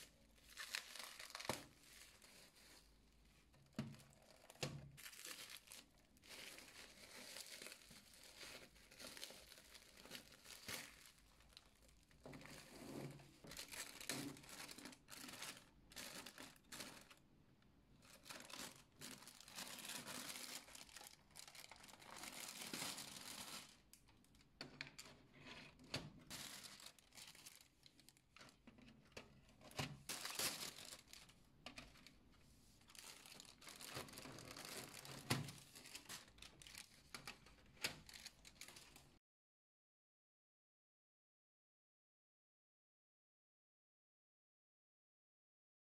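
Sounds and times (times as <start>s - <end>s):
plastic packaging crinkling and tearing: 0.0s - 17.2s, 18.0s - 25.1s, 25.8s - 32.2s, 32.8s - 39.2s.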